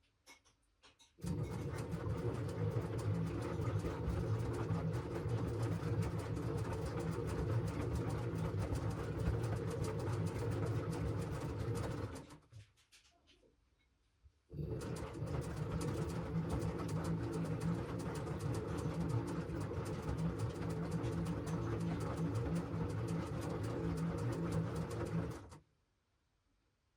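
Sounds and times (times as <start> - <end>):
washing machine drum churning: 1.2 - 12.4, 14.6 - 25.6.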